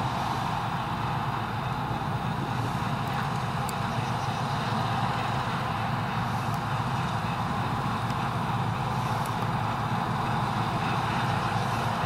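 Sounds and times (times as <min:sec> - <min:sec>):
combine harvester running: 0:00.0 - 0:12.0
tractor engine: 0:00.0 - 0:12.0.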